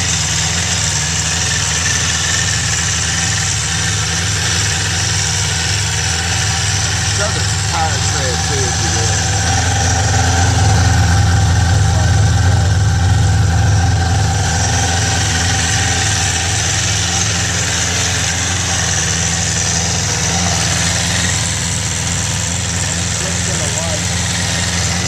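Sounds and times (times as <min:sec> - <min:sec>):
motorcycle engine fast idle: 0:00.0 - 0:25.0.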